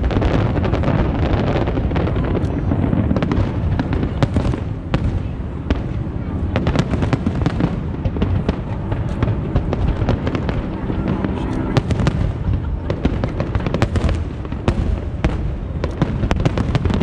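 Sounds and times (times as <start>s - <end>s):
fireworks crackling: 0.0s - 17.0s
fireworks exploding: 0.0s - 17.0s.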